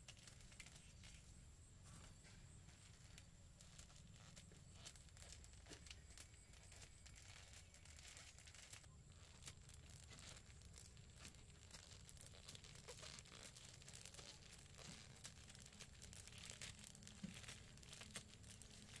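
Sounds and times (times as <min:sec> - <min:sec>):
faint steady hum: 0:00.0 - 0:19.0
soft crackles: 0:00.0 - 0:19.0.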